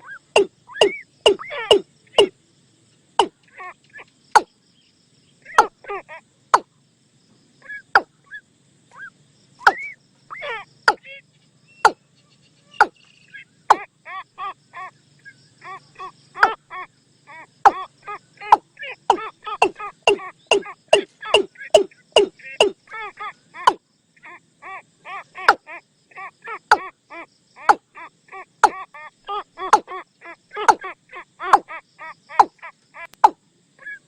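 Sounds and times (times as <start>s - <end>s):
watercock decoy calls: 0.0s - 2.4s, 3.2s - 4.5s, 5.4s - 6.7s, 7.6s - 11.2s, 12.7s - 34.0s.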